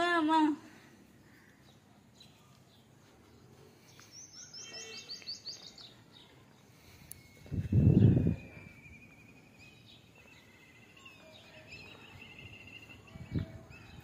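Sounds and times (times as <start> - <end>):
faint outdoor hiss: 0.0 - 14.0
bird chirping: 1.2 - 14.0.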